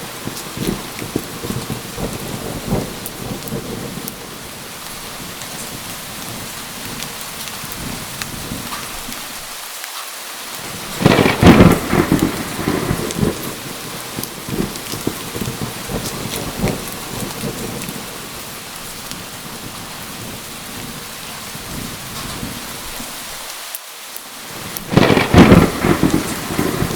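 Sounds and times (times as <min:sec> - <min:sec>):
thunder crack rumbling: 0:00.0 - 0:09.2, 0:10.6 - 0:23.2, 0:24.5 - 0:26.9
heavy rain: 0:00.0 - 0:26.9.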